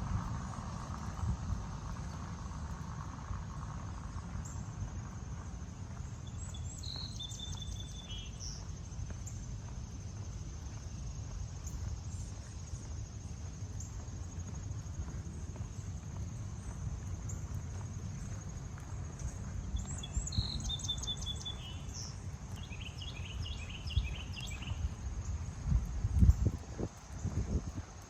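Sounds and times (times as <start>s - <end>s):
insects trilling: 0.0s - 28.0s
low outdoor rumble: 0.0s - 28.0s.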